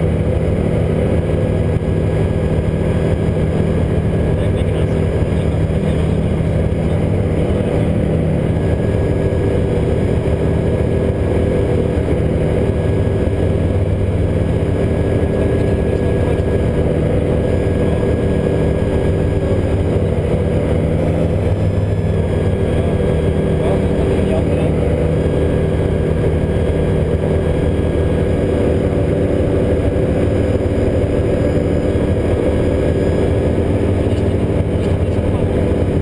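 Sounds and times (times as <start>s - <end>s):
gyroplane engine and propeller drone: 0.0s - 36.0s.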